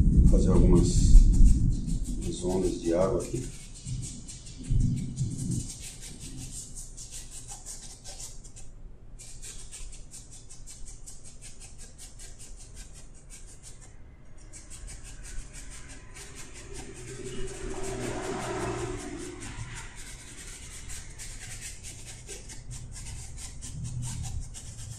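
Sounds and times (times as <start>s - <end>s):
paintbrush strokes on canvas: 0.0s - 24.9s.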